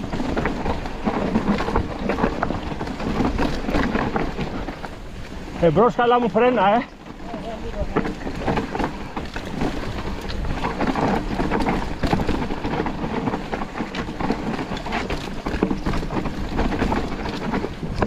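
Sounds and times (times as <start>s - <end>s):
bike rattling over bumps: 0.0s - 18.0s
tyres on dirt: 0.0s - 18.0s
wind rushing over microphone: 0.0s - 18.0s.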